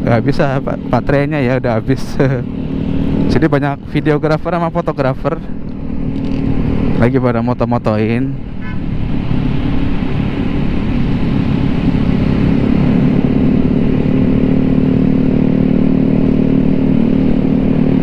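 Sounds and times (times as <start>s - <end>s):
scooter engine cruising: 0.0s - 7.4s, 8.0s - 18.0s
road and wind rumble: 0.0s - 18.0s.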